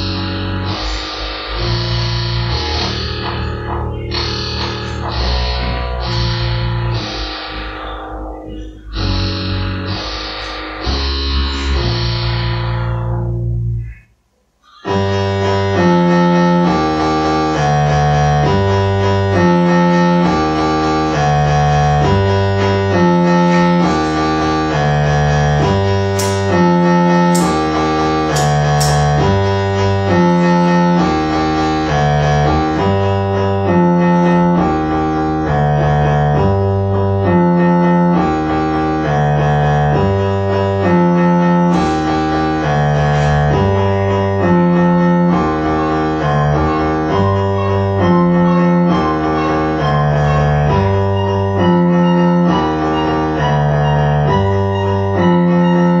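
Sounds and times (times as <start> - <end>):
modular synthesizer music: 0.0 - 56.0.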